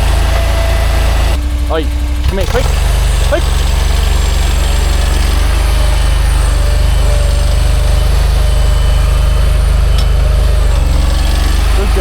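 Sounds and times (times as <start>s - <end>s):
earthmoving machine engine running: 0.0s - 12.0s.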